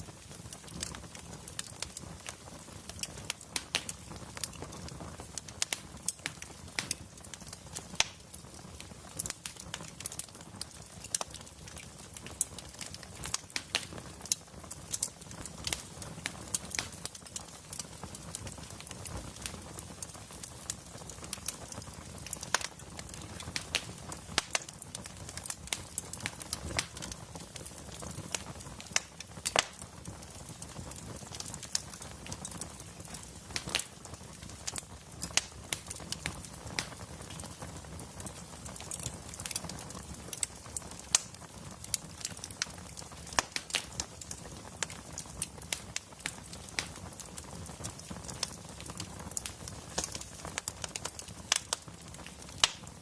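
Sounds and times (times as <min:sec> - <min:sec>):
burning logs popping: 0:00.0 - 0:53.0
low rumble of flame: 0:00.0 - 0:53.0.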